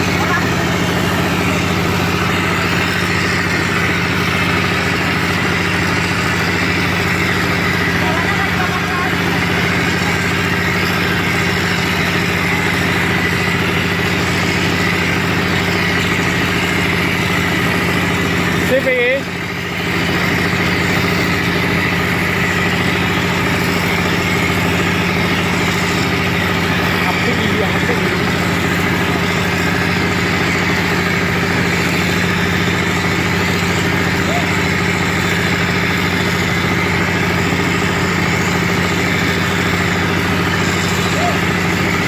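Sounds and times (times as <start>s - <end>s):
machine motor humming: 0.0s - 42.0s.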